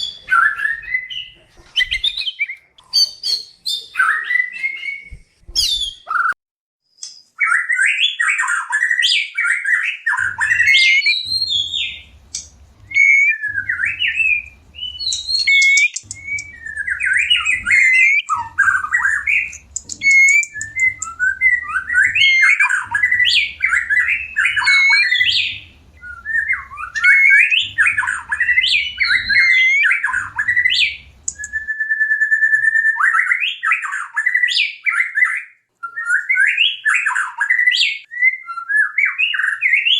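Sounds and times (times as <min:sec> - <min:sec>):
bird singing whistled phrases: 0:00.0 - 0:06.4, 0:07.3 - 0:39.9.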